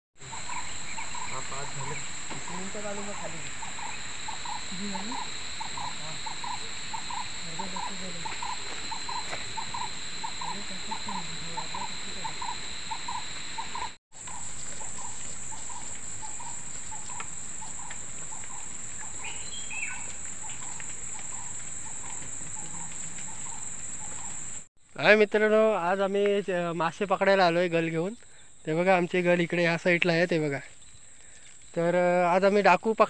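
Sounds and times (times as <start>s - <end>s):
insect chorus drone: 0.2s - 33.0s
short repeating insect call: 0.2s - 33.0s.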